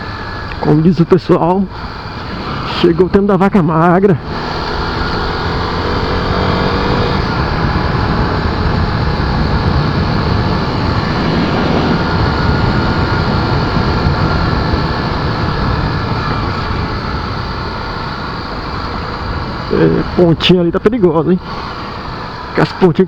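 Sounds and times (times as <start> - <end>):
motorcycle engine running: 0.0 - 23.0
wind rush on microphone: 4.2 - 23.0.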